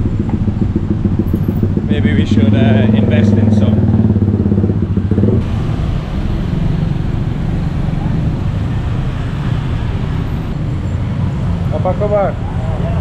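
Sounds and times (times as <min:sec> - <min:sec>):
passing traffic rumble: 0:00.0 - 0:13.0
vehicle engine running close: 0:00.0 - 0:13.0.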